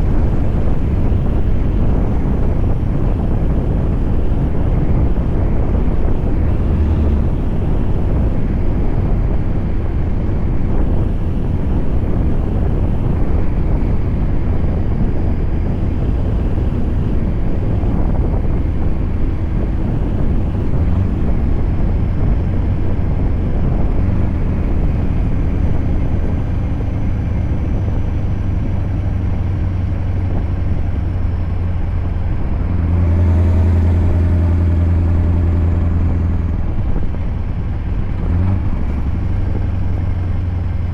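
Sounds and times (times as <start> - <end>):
road and wind noise: 0.0 - 40.9
truck engine running: 0.0 - 40.9.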